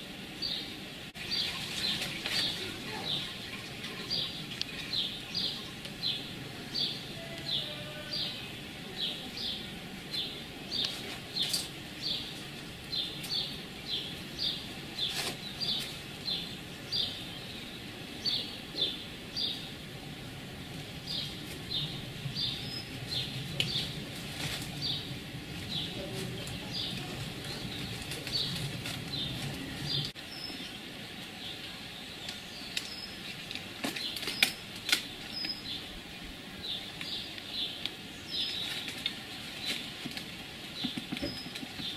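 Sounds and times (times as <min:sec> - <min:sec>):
bird chirping: 0:00.4 - 0:19.8, 0:21.0 - 0:24.1, 0:24.7 - 0:33.4, 0:34.0 - 0:36.0, 0:36.6 - 0:40.0, 0:40.7 - 0:41.9.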